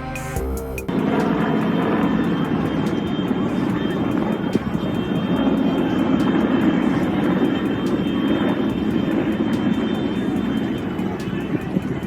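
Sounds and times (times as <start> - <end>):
airplane engine roar: 0.0 - 12.0.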